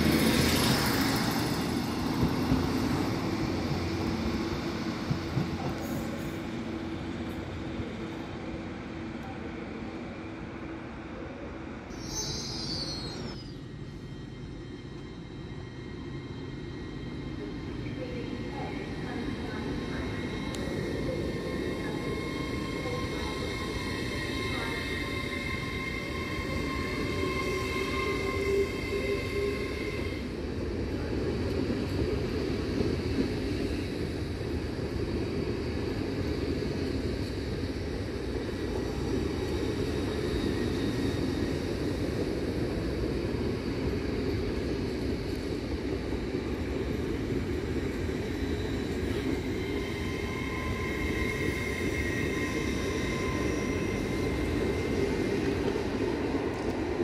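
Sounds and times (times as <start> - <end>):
train wheels rumbling on rail: 0.0 - 11.9, 13.3 - 57.0.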